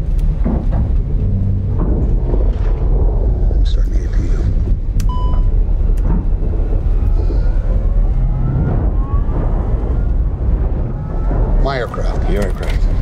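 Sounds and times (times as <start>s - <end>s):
loud steady low rumble: 0.0s - 13.0s.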